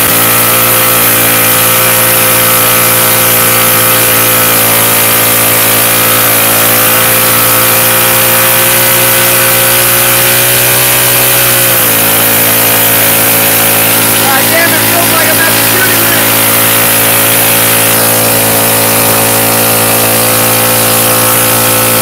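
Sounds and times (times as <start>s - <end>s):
mini bike engine running hard: 0.0s - 22.0s.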